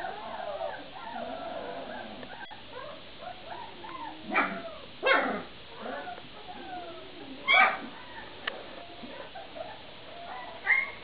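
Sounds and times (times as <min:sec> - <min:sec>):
puppies whining and whimpering: 0:00.0 - 0:11.0
puppies yapping: 0:00.0 - 0:11.0.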